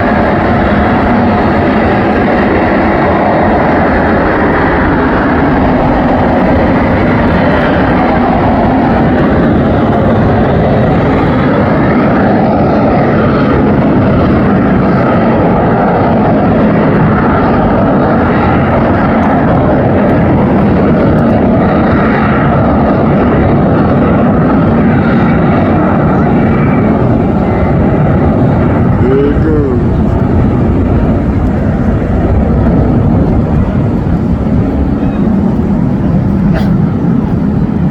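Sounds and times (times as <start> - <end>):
jet engine running: 0.0 - 37.9.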